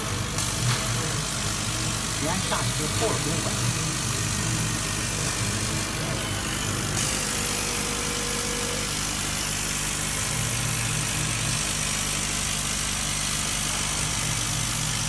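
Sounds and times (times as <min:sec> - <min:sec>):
laser cutting machine humming: 0:00.0 - 0:15.0.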